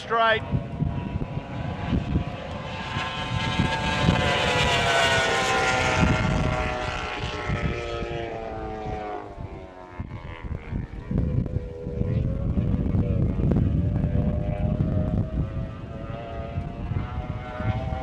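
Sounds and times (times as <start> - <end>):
racing boat engine whine passing: 0.0 - 18.0.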